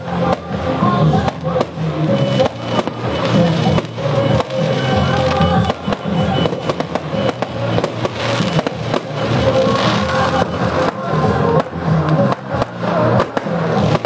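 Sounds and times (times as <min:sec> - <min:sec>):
background music: 0:00.0 - 0:14.0
fireworks banging and crackling: 0:00.0 - 0:14.0.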